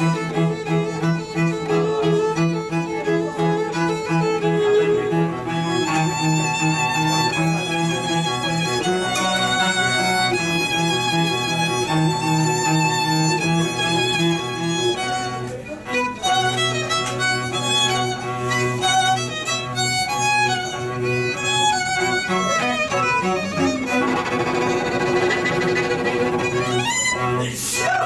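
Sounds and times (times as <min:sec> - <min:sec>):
bowed violin melody: 0:00.0 - 0:28.0
sustained cello bass line: 0:00.0 - 0:28.0.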